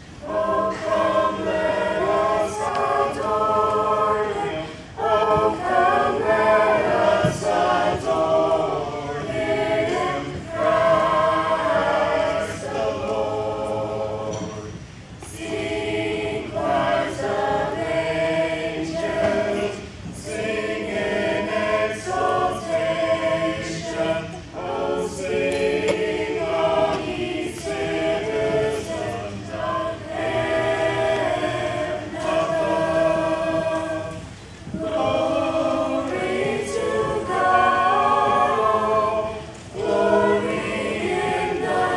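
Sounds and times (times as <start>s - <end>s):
choir singing unaccompanied: 0.0s - 41.9s.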